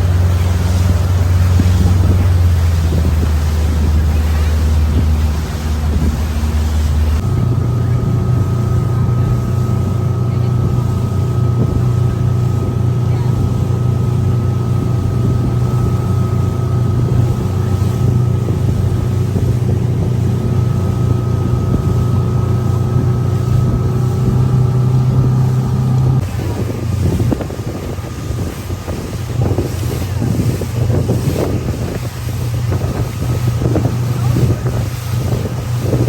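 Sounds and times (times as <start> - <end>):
motorboat engine humming: 0.0 - 36.0
water noise: 0.0 - 36.0
wind noise: 0.0 - 36.0.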